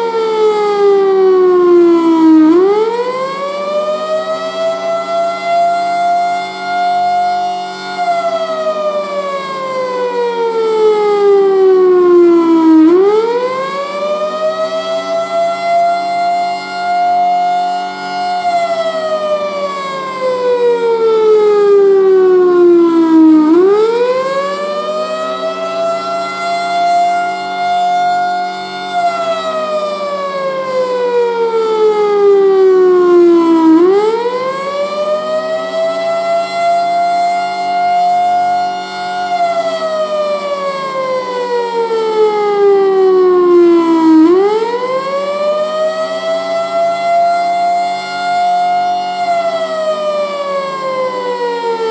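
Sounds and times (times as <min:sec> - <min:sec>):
siren wailing: 0:00.0 - 0:51.9.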